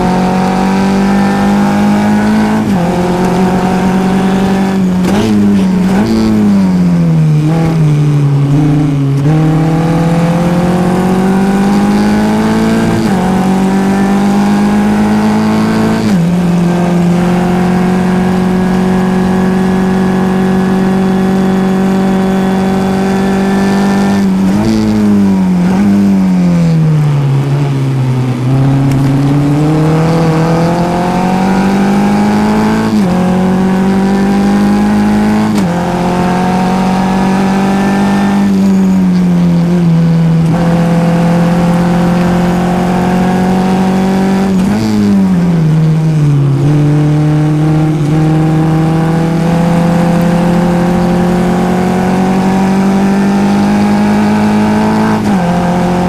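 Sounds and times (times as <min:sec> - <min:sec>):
race car engine revving: 0:00.0 - 0:56.0
throttle blips on downshifts: 0:00.0 - 0:56.0.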